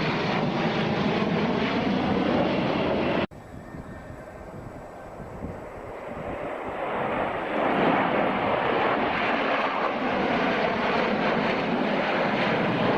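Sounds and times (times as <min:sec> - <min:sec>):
aircraft engine rushing: 0:00.0 - 0:12.9.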